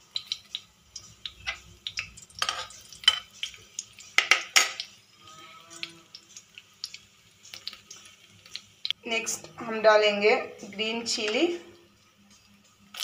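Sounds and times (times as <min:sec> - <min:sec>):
spices crackling in hot oil: 0:00.0 - 0:13.0.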